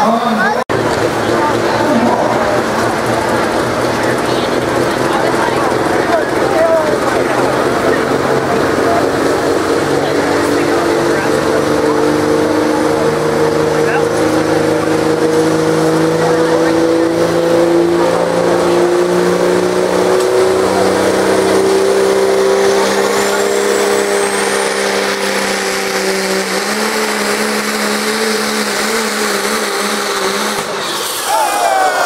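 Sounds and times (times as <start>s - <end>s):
diesel engine at high revs: 0.0s - 32.0s.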